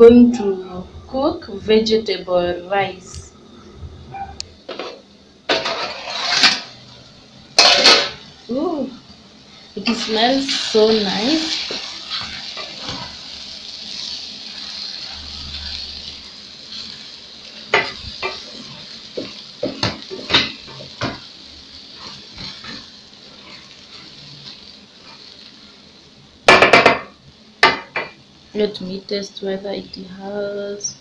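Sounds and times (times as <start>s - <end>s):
rice sizzling in a pot: 4.5s - 31.0s.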